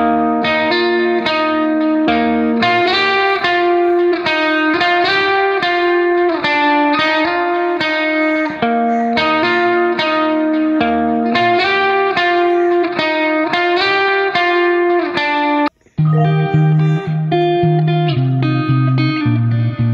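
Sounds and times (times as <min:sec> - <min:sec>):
guitar picking a melody: 0:00.0 - 0:19.9.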